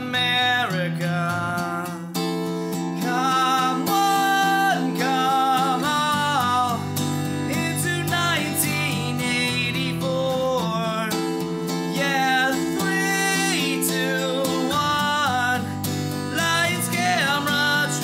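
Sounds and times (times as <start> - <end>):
acoustic guitar strumming: 0.0 - 18.0
looped guitar layers: 0.0 - 18.0
man singing: 0.0 - 18.0.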